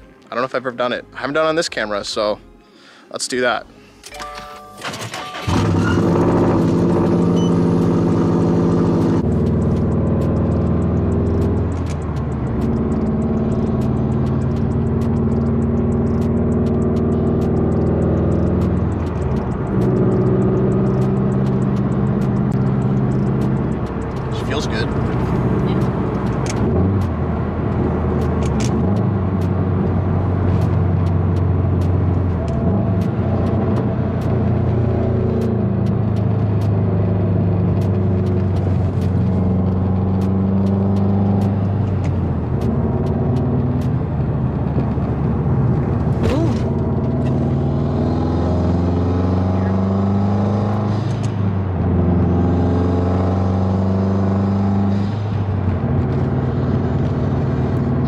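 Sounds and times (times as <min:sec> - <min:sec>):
tyre and road noise: 0:04.8 - 0:58.0
car engine accelerating through gears: 0:04.9 - 0:58.0.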